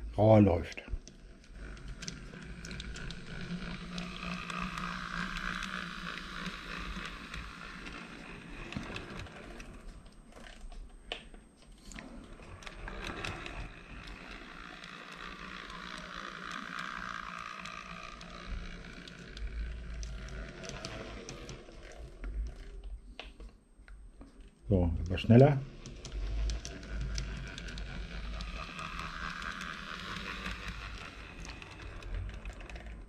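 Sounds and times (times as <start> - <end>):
model locomotive whirring: 0.0 - 33.0.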